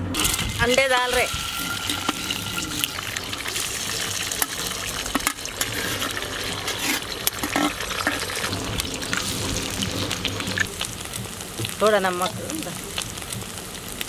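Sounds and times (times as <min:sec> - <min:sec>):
eggs sizzling in hot oil: 0:00.0 - 0:14.0.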